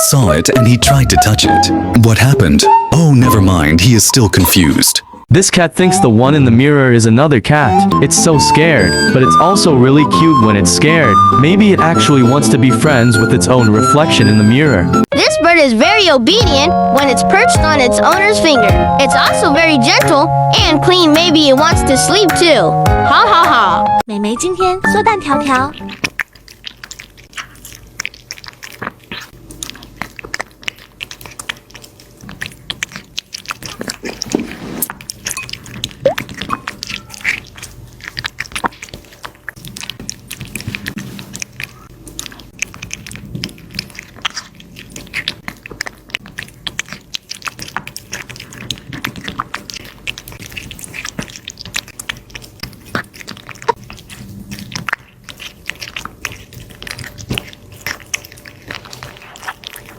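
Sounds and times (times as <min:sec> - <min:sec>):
animal chewing crunchy food: 0:06.2 - 0:23.7, 0:24.6 - 0:59.9.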